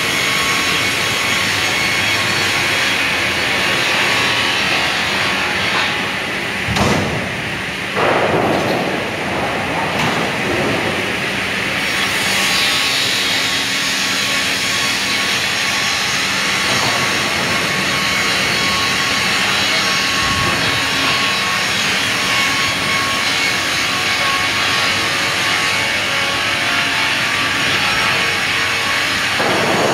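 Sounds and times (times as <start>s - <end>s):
sawmill machinery drone: 0.0s - 29.9s.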